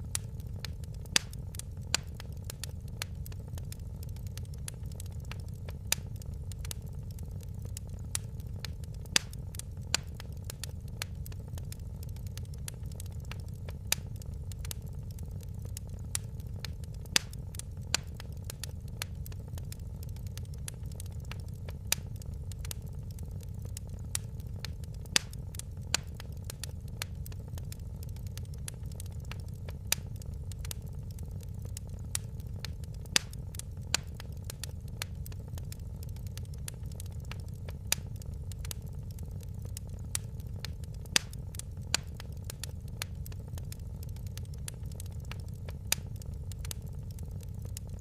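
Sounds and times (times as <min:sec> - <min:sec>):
fire crackling: 0:00.0 - 0:48.0
low fire rumble: 0:00.0 - 0:48.0.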